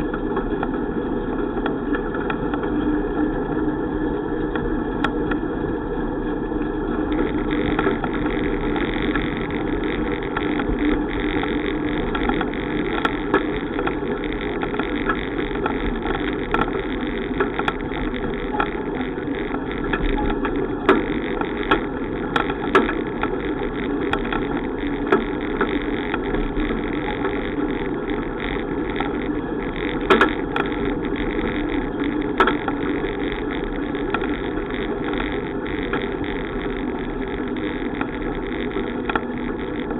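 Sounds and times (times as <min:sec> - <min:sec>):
bicycle riding noise: 0:00.0 - 0:39.9
sharp clicks and knocks: 0:07.0 - 0:39.9.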